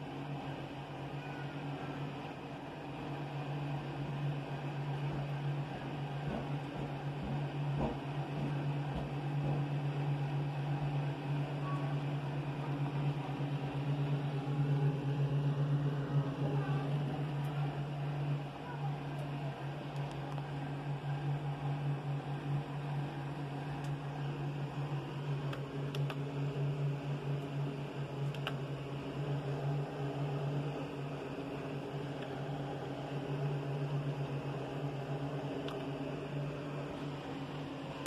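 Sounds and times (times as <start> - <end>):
computer fans humming: 0.0 - 38.0.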